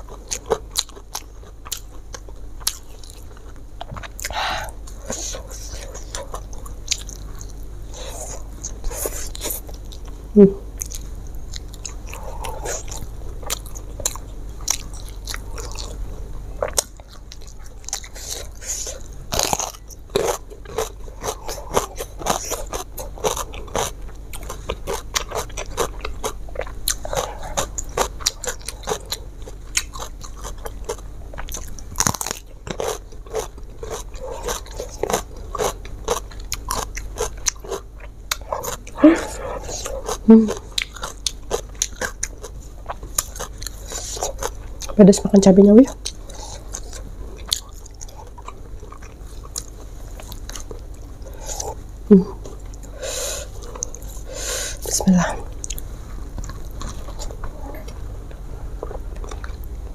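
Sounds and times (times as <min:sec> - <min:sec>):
person chewing crunchy food: 0:00.0 - 0:45.0, 0:45.9 - 0:59.9.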